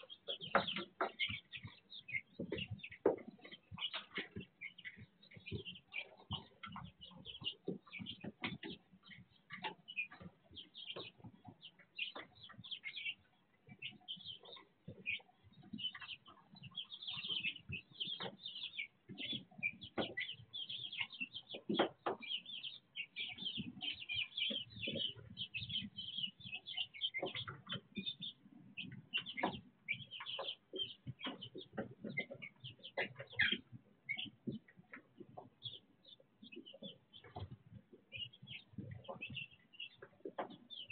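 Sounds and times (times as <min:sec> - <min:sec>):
chicks pecking and rustling in shavings: 0:00.0 - 0:40.9
chicks peeping: 0:00.0 - 0:40.9.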